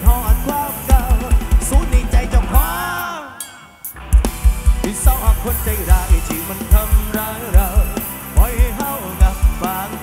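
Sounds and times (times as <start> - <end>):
heavy kick drum and bass: 0.0 - 3.0, 4.1 - 10.0
live band music over pa: 0.0 - 10.0.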